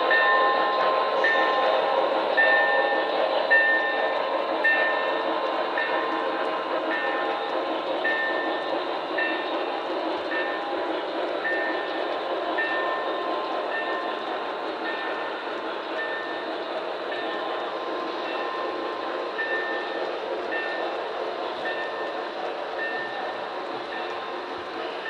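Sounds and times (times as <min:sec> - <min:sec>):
model train wheels rumbling on rail: 0:00.0 - 0:25.0.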